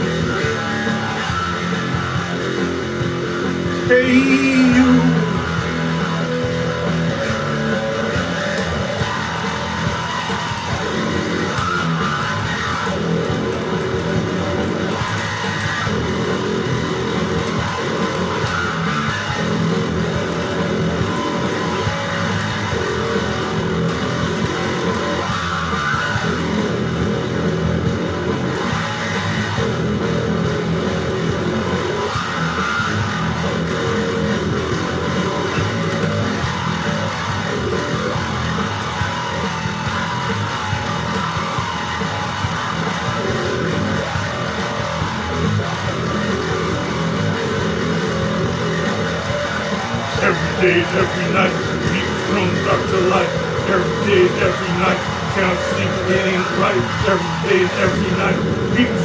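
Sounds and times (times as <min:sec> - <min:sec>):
instrumental rock music: 0:00.0 - 0:59.0.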